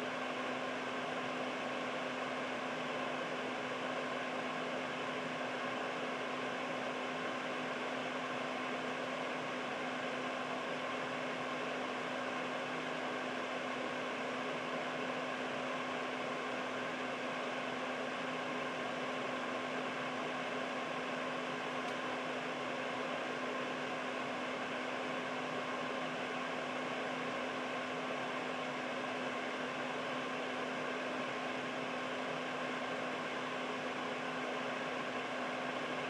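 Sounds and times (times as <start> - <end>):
air purifier fan running: 0.0 - 36.0.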